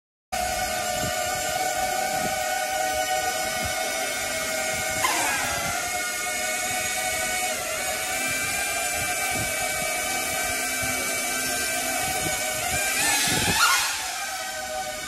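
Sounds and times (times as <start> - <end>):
drone propellers whirring: 0.4 - 15.0.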